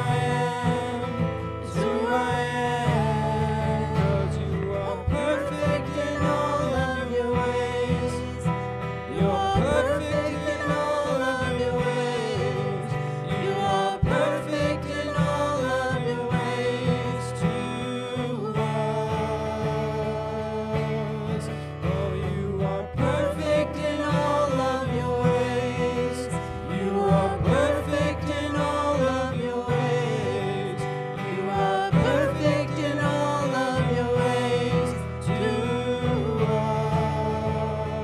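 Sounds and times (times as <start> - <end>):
man and women singing: 0.0 - 38.0
strummed acoustic guitar: 0.0 - 38.0.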